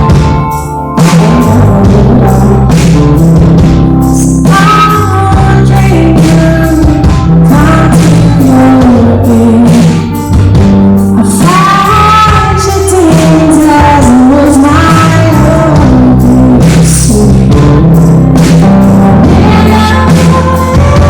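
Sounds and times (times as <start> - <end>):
live rock band playing: 0.0 - 21.0
lead vocalist singing: 1.0 - 3.1, 4.0 - 10.4, 11.1 - 21.0.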